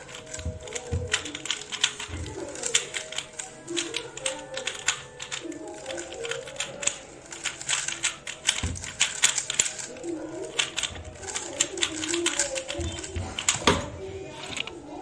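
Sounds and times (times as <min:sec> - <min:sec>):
puzzle cubes clicking as turned: 0:00.0 - 0:13.7.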